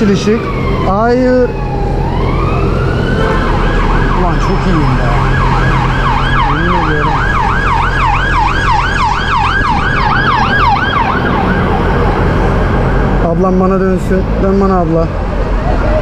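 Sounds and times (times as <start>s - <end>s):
siren yelping: 0.0s - 13.1s
city traffic hum: 0.0s - 16.0s.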